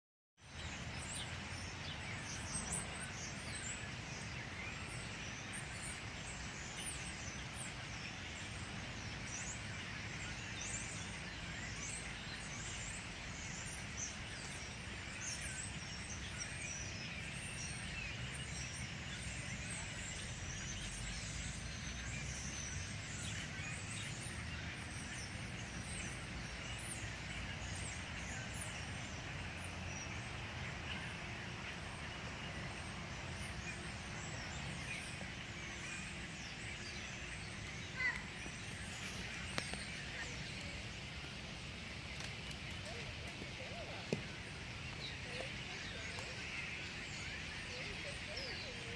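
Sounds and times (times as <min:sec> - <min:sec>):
flock of birds chirping: 0:00.4 - 0:48.9.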